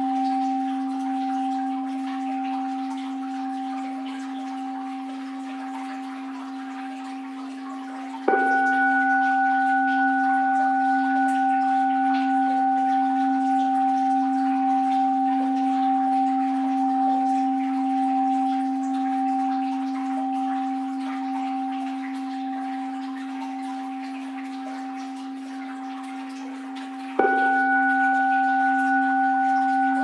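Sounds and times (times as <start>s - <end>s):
bowl bell ringing: 0.0s - 30.0s
flowing water: 0.0s - 30.0s.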